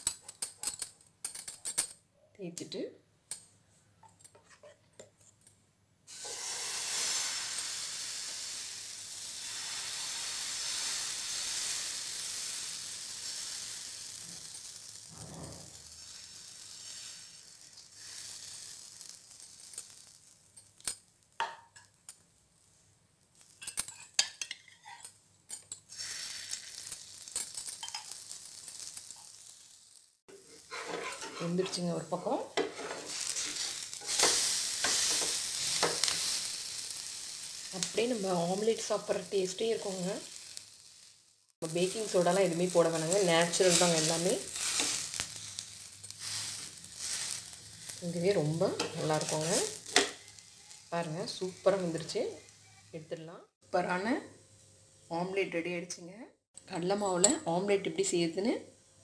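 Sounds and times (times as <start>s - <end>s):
batter sizzling in a pan: 6.1s - 55.4s.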